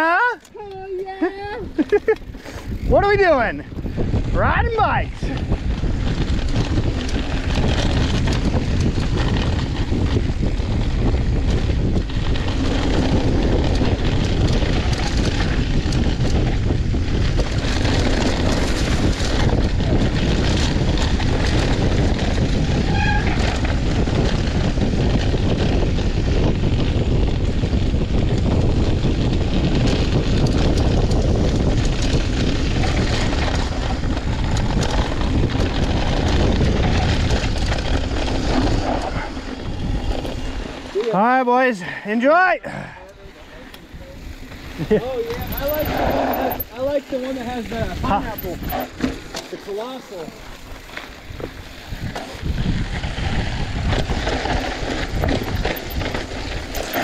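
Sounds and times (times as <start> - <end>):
mountain bike rattling on dirt: 0.0 - 57.0
wind buffeting microphone: 0.6 - 41.0, 42.6 - 49.4, 50.1 - 57.0.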